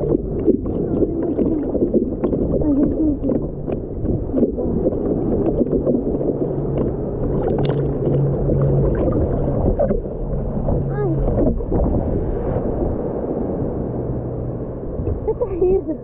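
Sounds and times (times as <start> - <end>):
seawater sloshing and splashing: 0.0 - 15.4
low steady hum: 0.0 - 16.0.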